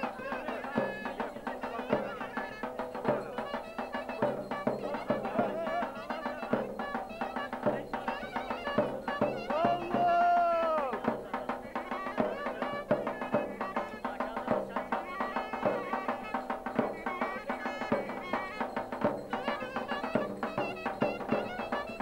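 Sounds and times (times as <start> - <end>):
wind instrument melody: 0.0 - 22.0.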